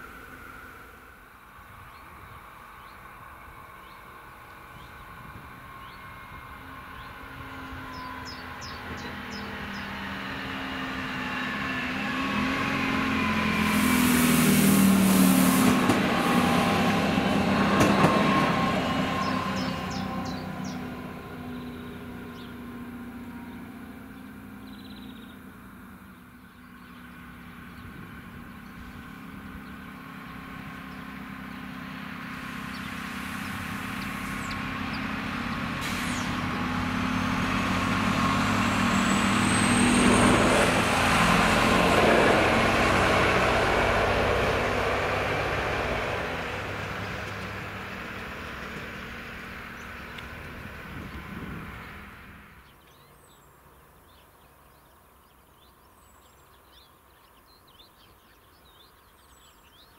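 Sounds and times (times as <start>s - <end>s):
diesel railcar passing: 0.0s - 54.5s.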